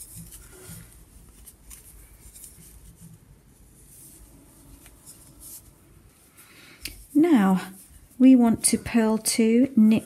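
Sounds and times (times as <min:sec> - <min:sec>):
knitting needles scraping yarn: 0:00.0 - 0:10.0.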